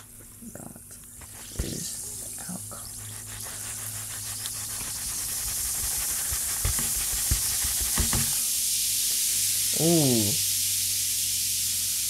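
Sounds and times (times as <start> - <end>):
fizzing hiss of bubbling liquid: 1.1 - 12.0.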